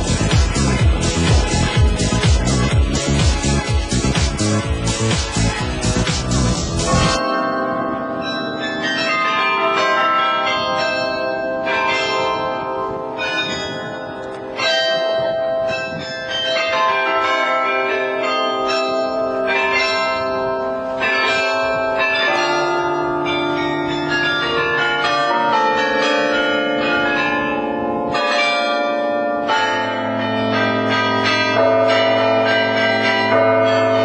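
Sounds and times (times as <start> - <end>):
carillon bells playing a tune: 0.0 - 34.0.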